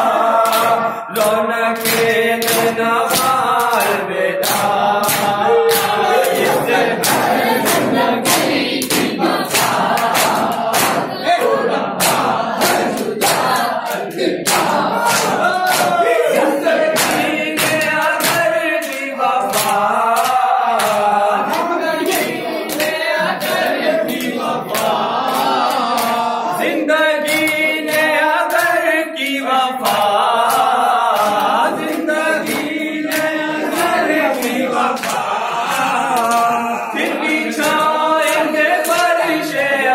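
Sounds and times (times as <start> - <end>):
group of men chanting: 0.0 - 39.9
men chanting into microphones: 0.0 - 39.9
hands slapping chests: 0.4 - 11.2, 12.0 - 16.0, 16.9 - 26.3, 29.8 - 39.1.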